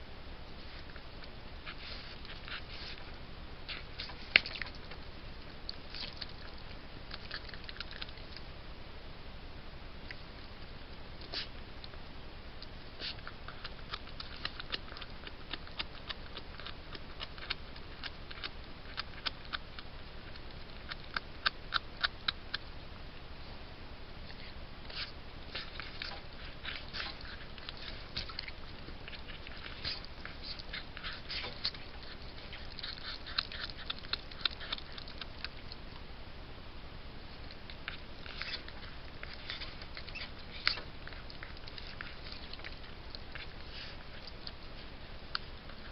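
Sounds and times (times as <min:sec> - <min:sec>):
steady hiss: 0:00.0 - 0:14.5, 0:19.6 - 0:45.9
animal chewing and crunching: 0:00.5 - 0:08.7, 0:10.0 - 0:23.6, 0:24.2 - 0:36.2, 0:37.1 - 0:45.9.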